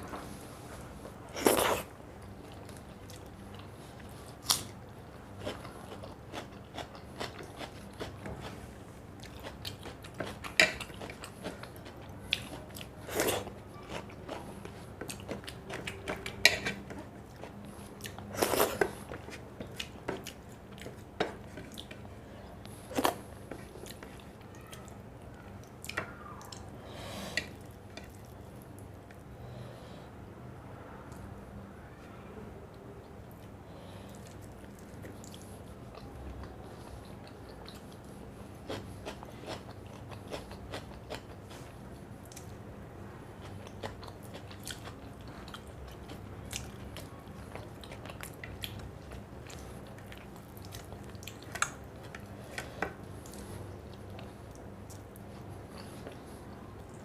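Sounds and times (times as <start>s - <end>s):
person chewing food: 1.0s - 24.9s, 33.2s - 42.6s, 43.4s - 57.0s.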